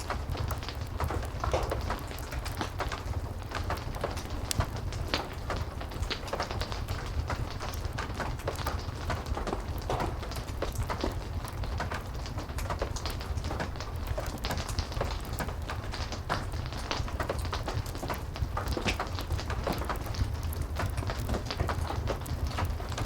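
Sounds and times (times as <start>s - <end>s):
heavy rain: 0.0s - 23.0s
wood fire crackling: 0.0s - 23.0s.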